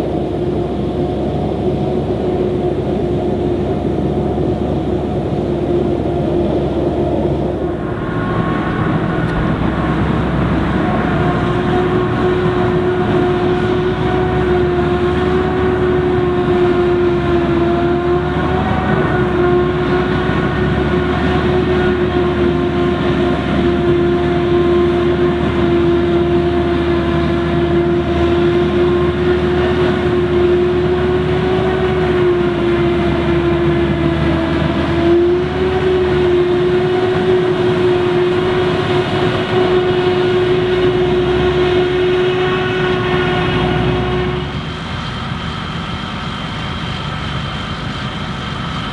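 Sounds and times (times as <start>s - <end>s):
harvester engine whining: 0.0s - 48.9s.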